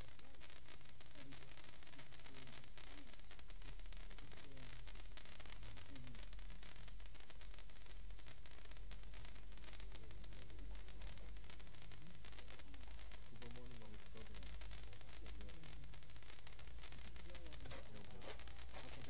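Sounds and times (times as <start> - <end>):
sparklers fizzing and crackling: 0.0 - 19.0.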